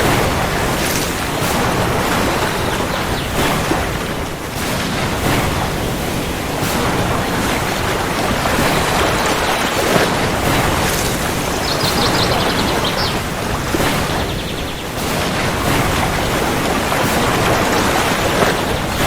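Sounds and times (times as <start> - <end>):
heavy rainfall: 0.0 - 19.0.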